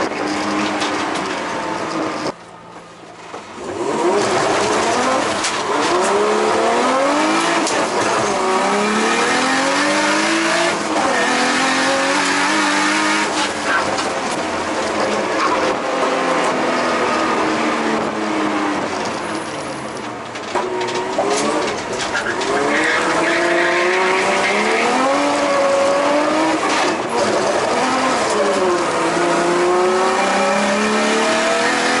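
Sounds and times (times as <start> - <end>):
turbocharged car engine revving: 3.6 - 19.1, 20.9 - 32.0.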